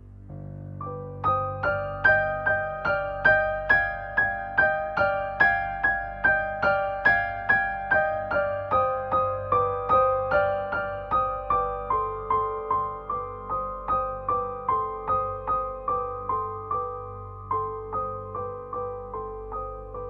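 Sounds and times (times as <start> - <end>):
soft keyboard melody: 0.0 - 20.0.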